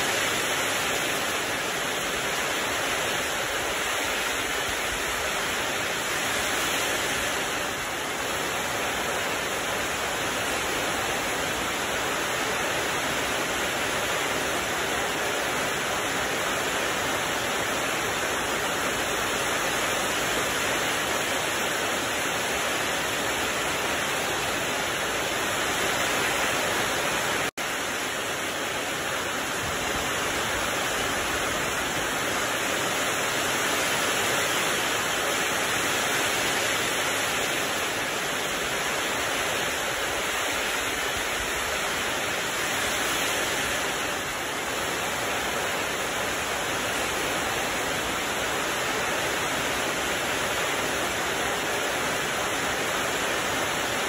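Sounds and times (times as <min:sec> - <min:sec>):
heavy rain on leaves and grass: 0:00.0 - 0:54.0.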